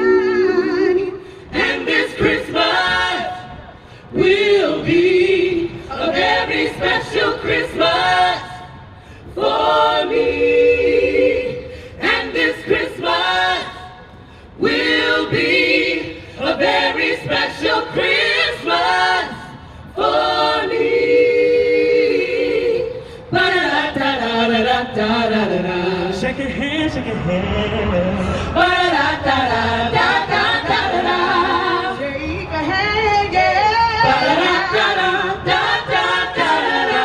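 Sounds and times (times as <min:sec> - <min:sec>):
a cappella group singing: 0:00.0 - 0:37.0.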